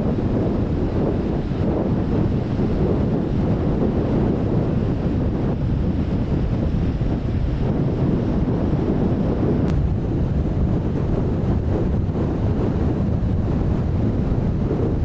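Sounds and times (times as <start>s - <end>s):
rough sea: 0.0s - 15.0s
wind buffeting microphone: 0.0s - 15.0s.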